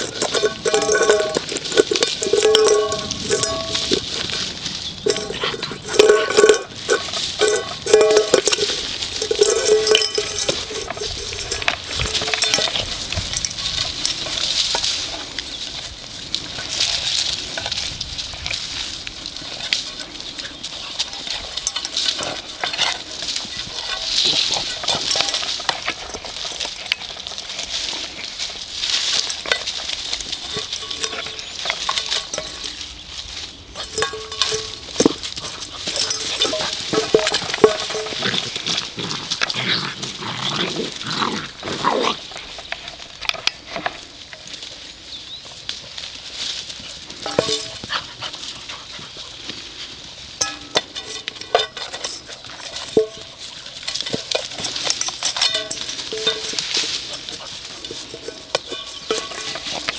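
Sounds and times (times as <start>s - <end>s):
puppy eating from metal bowl: 0.0s - 45.4s, 46.3s - 59.9s
bowl scraping over ground: 0.0s - 59.9s.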